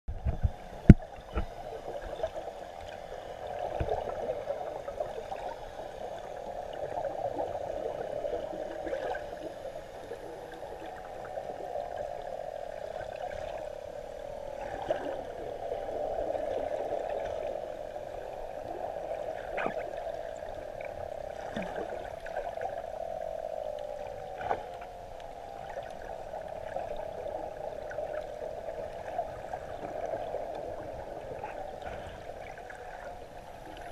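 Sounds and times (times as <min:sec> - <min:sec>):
muffled underwater noise: 0:00.1 - 0:33.9.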